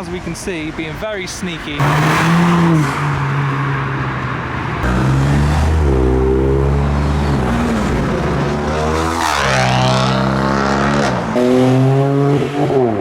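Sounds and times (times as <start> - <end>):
car engines running: 0.0 - 13.0
loud car engine revving: 1.8 - 13.0.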